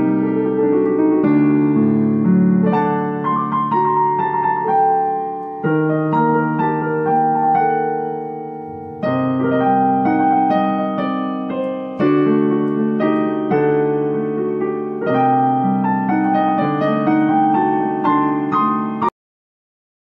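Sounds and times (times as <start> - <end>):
slow piano music: 0.0 - 19.2.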